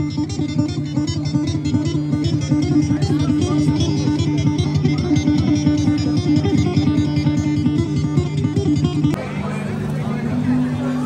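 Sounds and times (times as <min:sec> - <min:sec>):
guitar strummed fast: 0:00.0 - 0:11.0.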